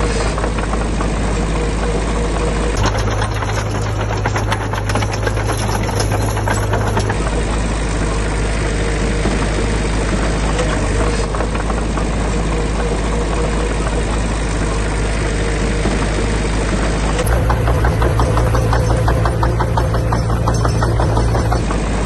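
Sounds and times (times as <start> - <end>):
diesel engine of heavy machinery: 0.0 - 22.0.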